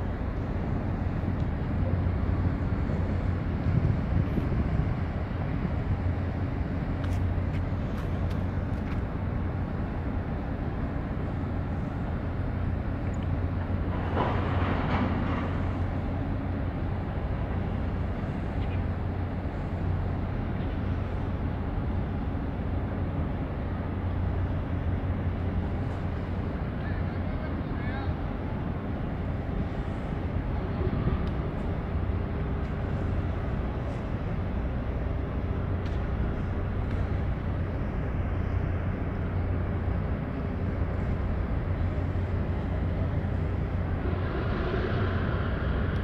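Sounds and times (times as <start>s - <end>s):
container ship engine drone: 0.0s - 46.0s
rush of noise: 0.0s - 46.0s.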